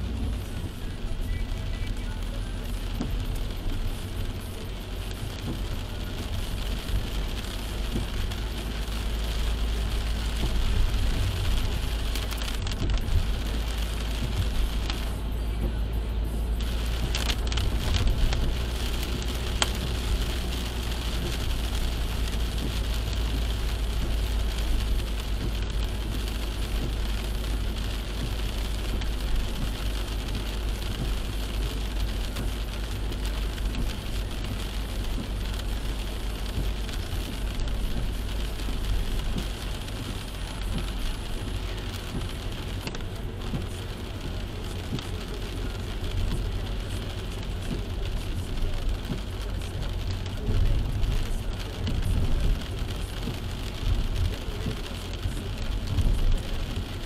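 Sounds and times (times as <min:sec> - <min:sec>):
car driving rumble: 0:00.0 - 0:57.0
tyres hissing on wet road: 0:00.0 - 0:57.0.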